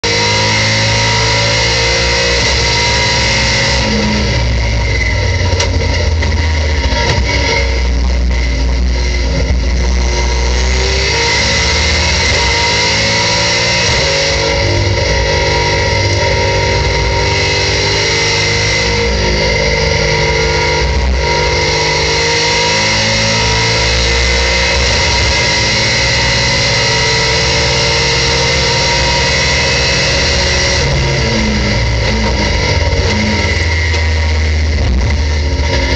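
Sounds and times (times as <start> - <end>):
car engine at full throttle: 0.0 - 35.9.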